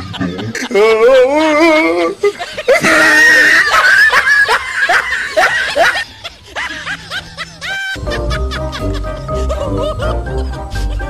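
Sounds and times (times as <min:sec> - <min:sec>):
person laughing: 0:00.0 - 0:11.0.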